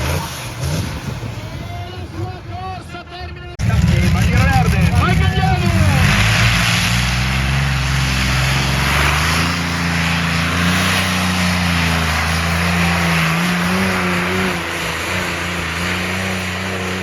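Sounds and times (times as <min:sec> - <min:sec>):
tractor engine at high revs: 0:00.0 - 0:02.3, 0:03.5 - 0:17.0.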